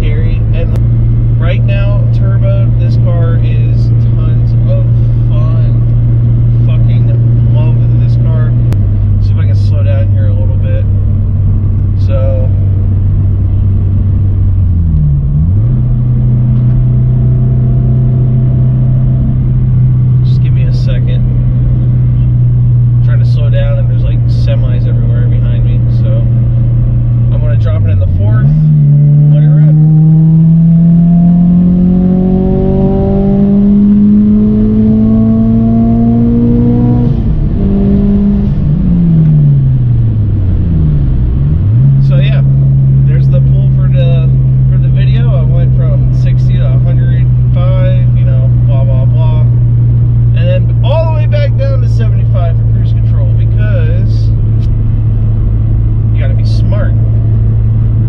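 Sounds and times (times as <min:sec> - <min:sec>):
car engine droning at speed: 0:00.0 - 0:58.0.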